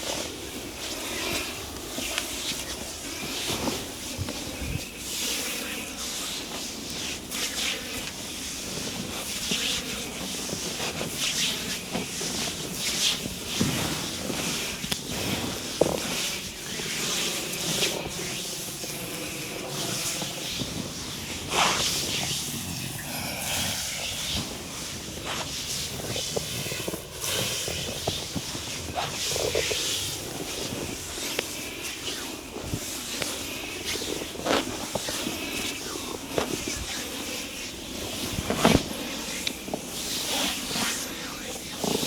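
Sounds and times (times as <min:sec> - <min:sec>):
hands rubbing over skin: 0:00.8 - 0:42.0.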